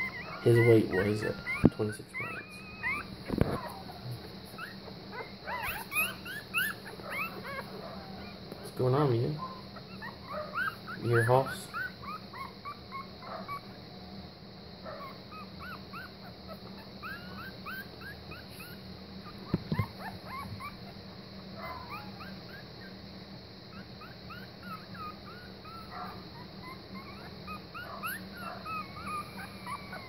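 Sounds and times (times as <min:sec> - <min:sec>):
puppies whimpering: 0:00.0 - 0:13.8, 0:14.9 - 0:23.0, 0:23.7 - 0:30.0.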